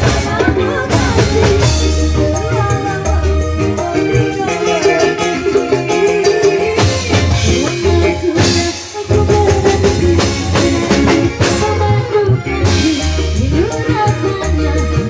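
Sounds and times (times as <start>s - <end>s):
bass: 0.0s - 15.0s
drums: 0.0s - 15.0s
live band music: 0.0s - 15.0s
woman singing: 0.0s - 15.0s.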